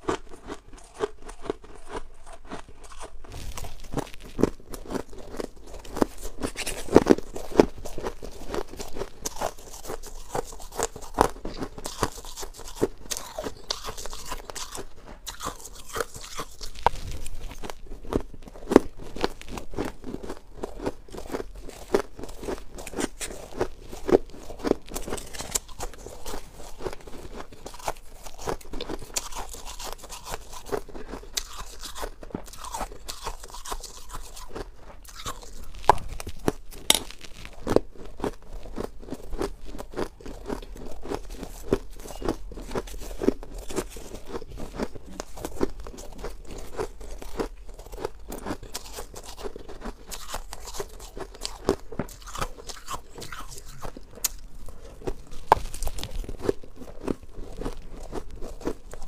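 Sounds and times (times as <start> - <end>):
crunching and chewing frost: 0.0 - 59.0.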